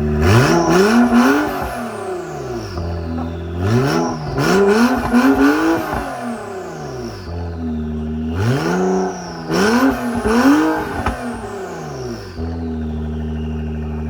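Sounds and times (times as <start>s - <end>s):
car engine revving and idling: 0.0s - 14.0s
turbo whistle: 0.2s - 14.0s.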